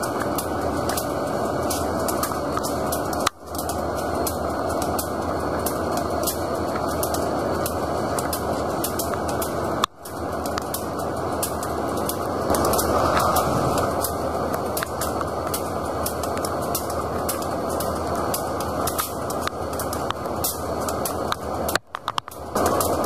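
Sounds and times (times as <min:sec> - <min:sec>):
freight train rumbling past: 0:00.0 - 0:21.8, 0:22.4 - 0:23.0
sharp ticks of train wheels: 0:00.0 - 0:23.0.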